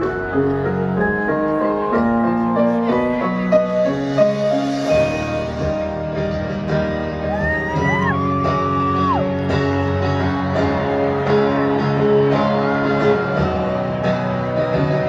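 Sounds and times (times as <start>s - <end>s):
live piano music through pa: 0.0s - 15.0s.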